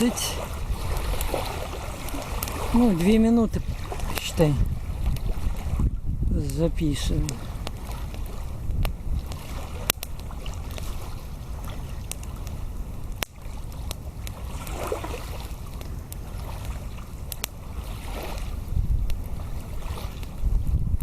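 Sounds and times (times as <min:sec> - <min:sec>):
campfire crackling: 0:00.0 - 0:21.0
wind buffeting microphone: 0:00.0 - 0:21.0.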